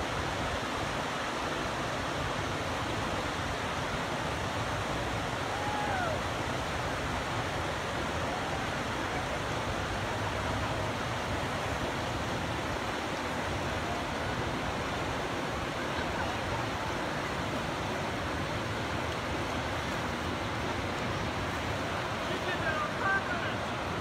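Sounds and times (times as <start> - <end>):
water rushing over dam: 0.0 - 24.0.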